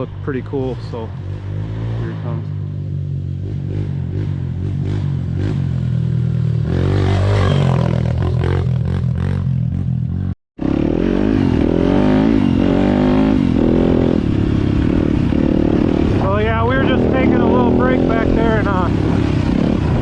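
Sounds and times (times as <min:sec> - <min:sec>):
dirt bike engine: 0:00.0 - 0:20.0
dirt bike engine revving: 0:00.0 - 0:20.0.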